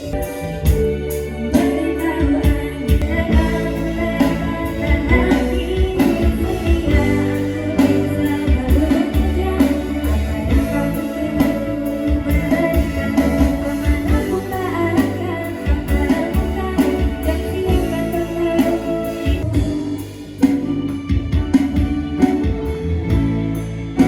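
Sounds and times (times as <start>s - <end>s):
guitar music with steady beat: 0.0s - 24.0s
person singing: 1.0s - 22.8s.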